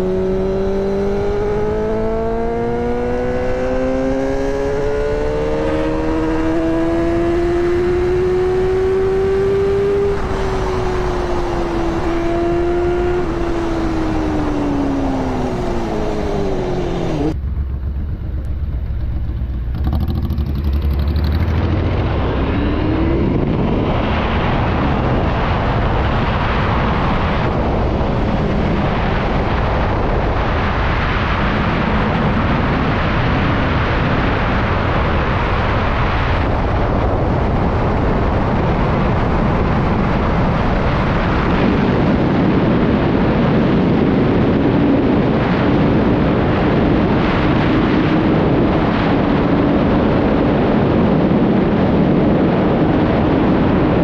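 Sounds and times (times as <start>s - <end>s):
motorcycle engine: 0.0s - 54.0s
wind and road noise: 0.0s - 54.0s.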